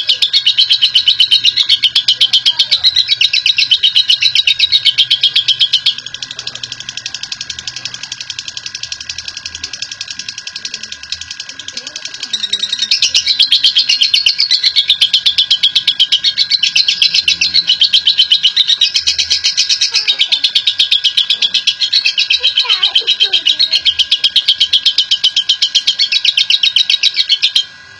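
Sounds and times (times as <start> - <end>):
lovebird shrill chatter: 0.0 - 27.8.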